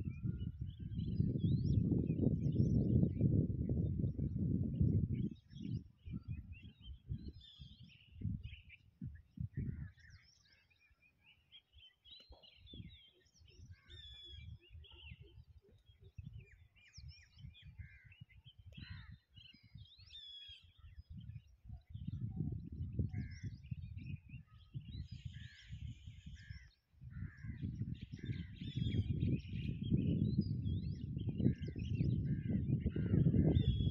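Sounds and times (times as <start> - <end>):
birds chirping and calling: 0.0 - 3.3, 4.0 - 33.9
wind buffeting microphone: 0.0 - 10.9, 11.7 - 33.9.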